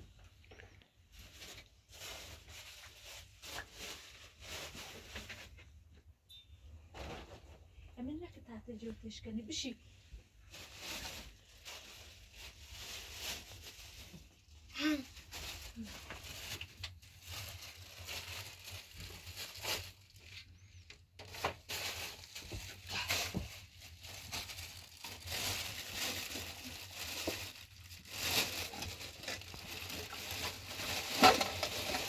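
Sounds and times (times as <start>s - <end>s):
plastic bag rustling and crinkling: 0.6s - 5.7s, 10.3s - 32.0s.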